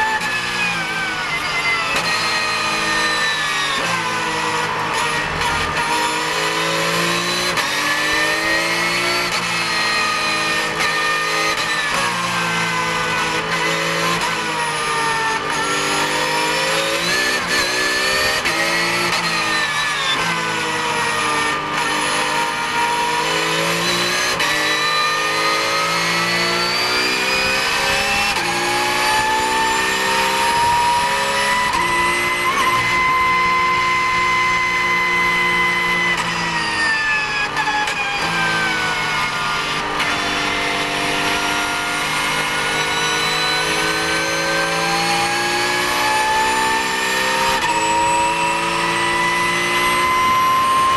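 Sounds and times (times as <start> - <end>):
race car engine from cockpit: 0.0 - 50.9.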